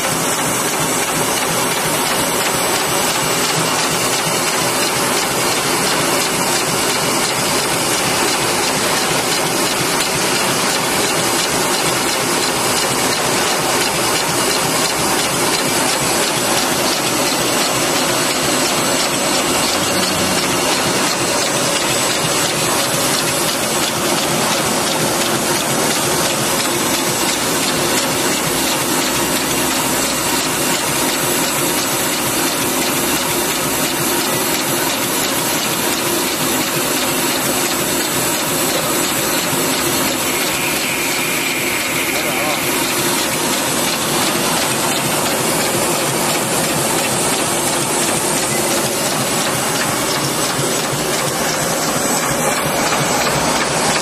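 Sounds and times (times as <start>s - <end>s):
packing machine clattering: 0.0s - 40.9s, 41.8s - 54.0s
machine hiss: 0.2s - 54.0s.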